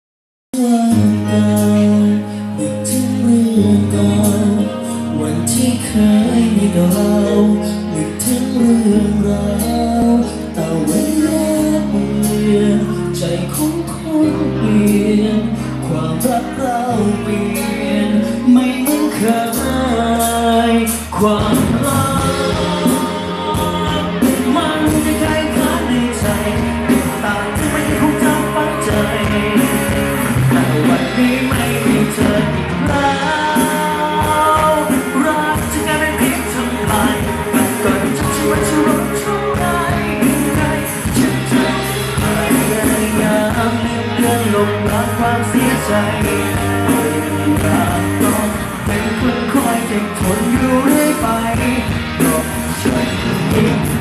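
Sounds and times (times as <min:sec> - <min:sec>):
man singing: 0:00.5 - 0:54.0
bass notes: 0:00.6 - 0:54.0
live band playing: 0:00.6 - 0:54.0.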